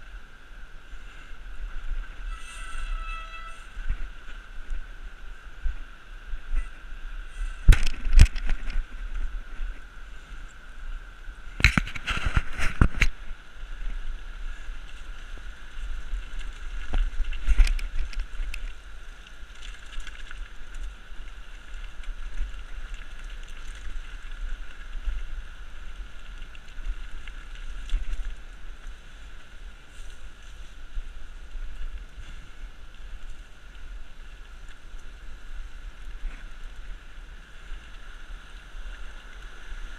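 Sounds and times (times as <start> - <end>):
wind rumbling on microphone: 0.0 - 39.9
bicycle rattling over rocky path: 0.8 - 39.9.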